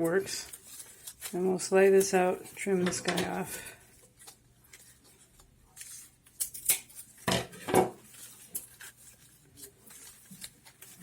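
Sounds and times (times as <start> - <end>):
palm strips rustling: 0.0 - 11.0.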